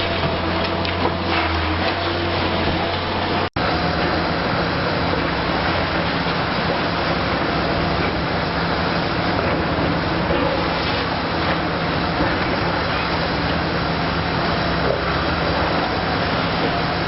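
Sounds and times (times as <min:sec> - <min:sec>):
excavator diesel engine hum: 0:00.0 - 0:17.0.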